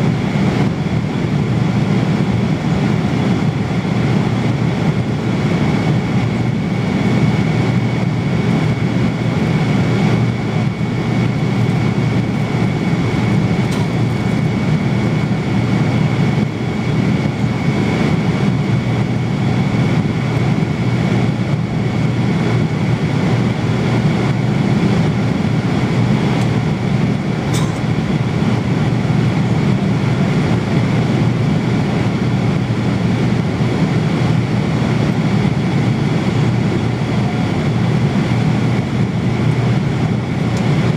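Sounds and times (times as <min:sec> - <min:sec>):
airliner cabin engine rush: 0:00.0 - 0:40.9
faint steady whine: 0:00.0 - 0:40.9.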